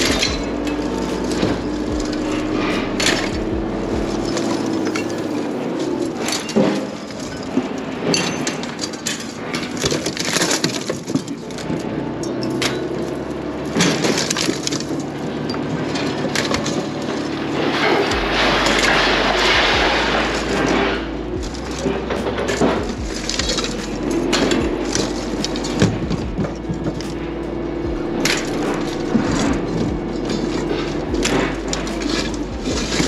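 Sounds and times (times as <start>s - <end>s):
machine engine running: 0.0s - 33.0s
scrap metal clanking: 0.0s - 33.0s.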